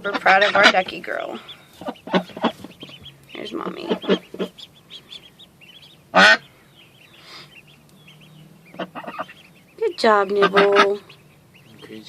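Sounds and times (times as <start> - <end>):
duck quacking: 0.0 - 12.0
ducklings peeping: 0.0 - 12.0.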